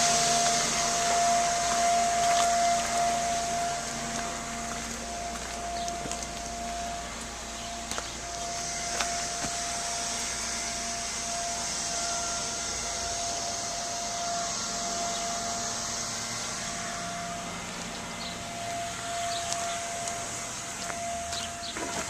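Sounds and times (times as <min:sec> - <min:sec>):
small motor whining: 0:00.0 - 0:22.0.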